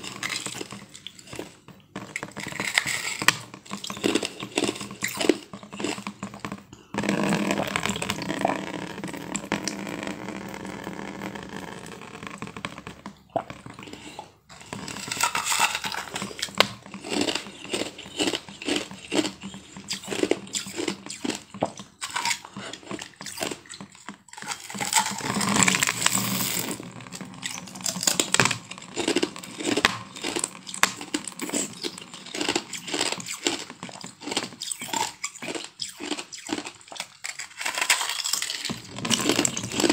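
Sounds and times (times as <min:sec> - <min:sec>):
chewing crunching ice: 0:00.0 - 0:08.6, 0:13.3 - 0:39.9.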